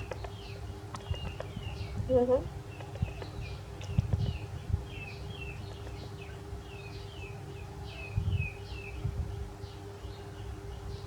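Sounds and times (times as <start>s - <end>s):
faint steady hum: 0.0s - 11.0s
small birds chirping: 0.0s - 11.0s.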